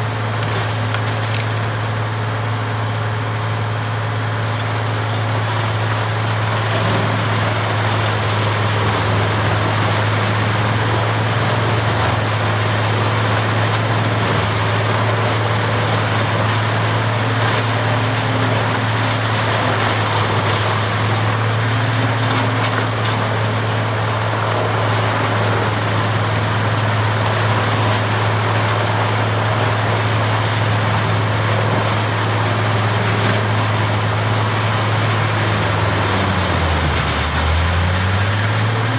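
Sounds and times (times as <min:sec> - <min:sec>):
wood grinder running: 0:00.0 - 0:38.9.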